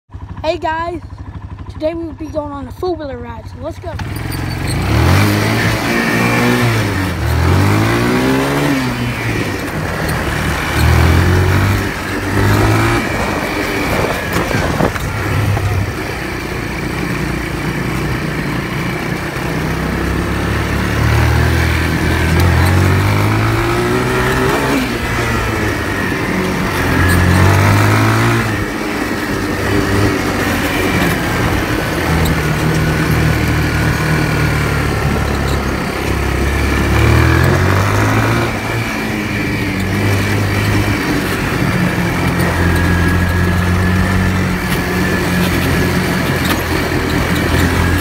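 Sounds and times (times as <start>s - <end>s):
atv engine revving: 0.1s - 48.0s
constant rushing noise: 1.2s - 48.0s.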